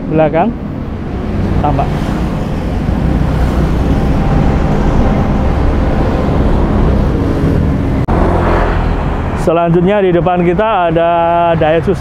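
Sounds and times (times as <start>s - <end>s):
cars passing: 0.0s - 12.0s
motorbikes passing: 0.0s - 12.0s.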